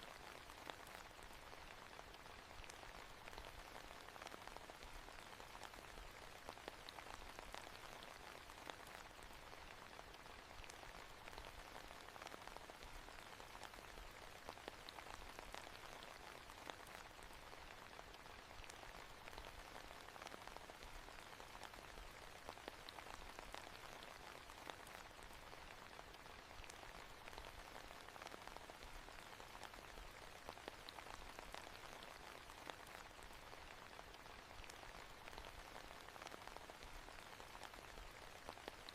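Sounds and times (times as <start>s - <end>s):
faint rain falling: 0.0s - 38.9s
raindrop ticks: 0.0s - 38.9s.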